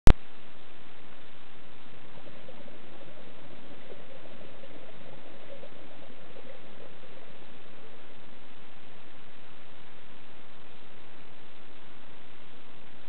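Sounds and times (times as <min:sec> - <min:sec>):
steady hiss: 0:00.1 - 0:13.0
underwater diver bubbles: 0:01.2 - 0:11.9.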